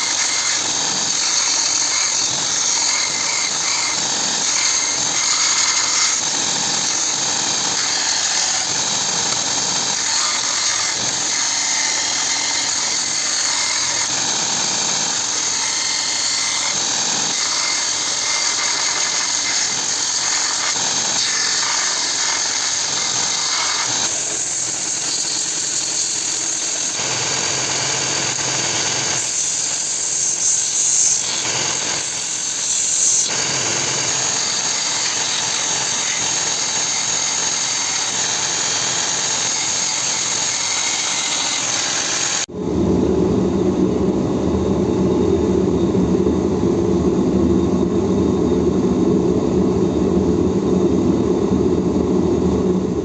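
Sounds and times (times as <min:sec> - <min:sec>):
electric power tool cutting steel: 0:00.0 - 0:42.5.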